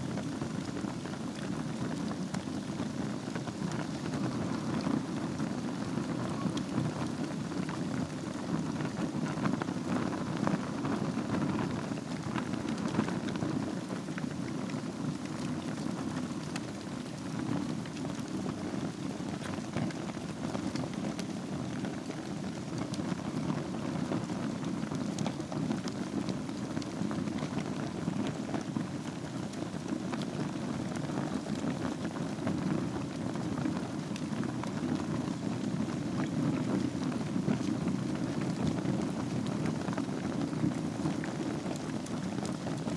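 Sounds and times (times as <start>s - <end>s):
fire crackles and pops: 0.0s - 42.9s
wood fire burning: 0.0s - 42.9s.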